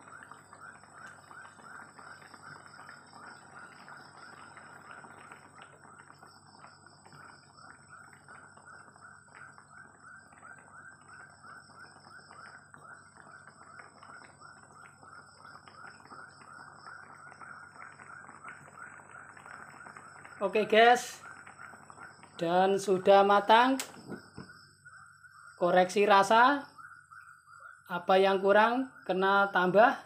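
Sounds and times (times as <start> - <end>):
stew bubbling in a wok: 0.0 - 30.0.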